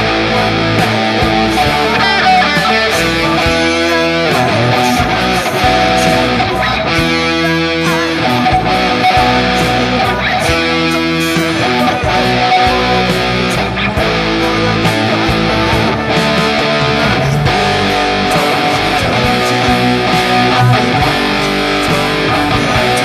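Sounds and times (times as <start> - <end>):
electric guitar playing chords: 0.0 - 23.0.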